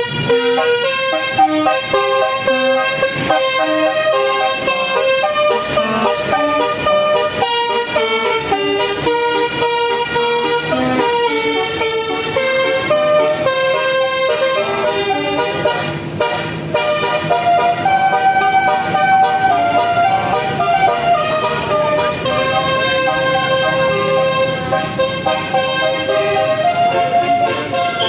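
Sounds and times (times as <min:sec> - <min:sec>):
multi-note air horn tune: 0:00.0 - 0:28.0.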